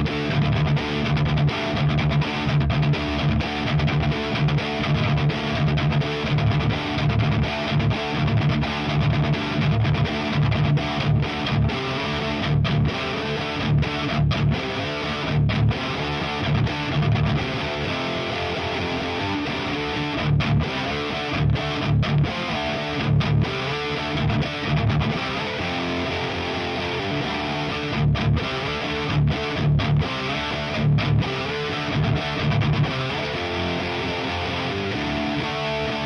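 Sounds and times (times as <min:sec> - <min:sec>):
distorted electric guitar riff: 0:00.0 - 0:36.0.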